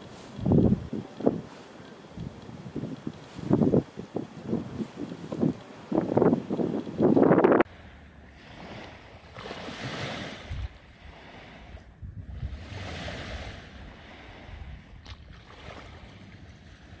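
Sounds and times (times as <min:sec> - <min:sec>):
small waves lapping on sand: 0:00.0 - 0:07.1, 0:07.7 - 0:17.0
wind rumble on microphone: 0:00.0 - 0:17.0.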